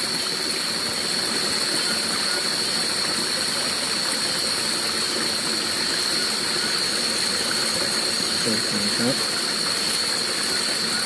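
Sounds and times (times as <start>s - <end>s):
stream rushing: 0.0s - 11.0s.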